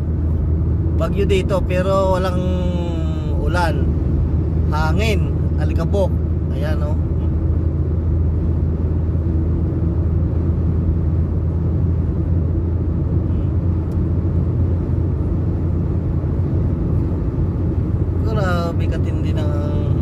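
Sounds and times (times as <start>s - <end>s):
strong wind: 0.0s - 20.0s
vehicle cabin rumble: 0.0s - 20.0s.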